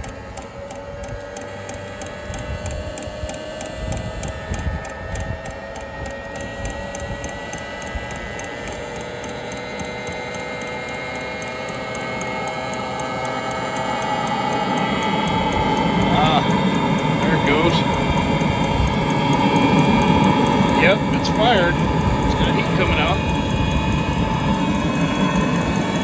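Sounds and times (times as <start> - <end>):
fuel pump ticking: 0.0 - 26.0
heater blower whine: 0.0 - 26.0.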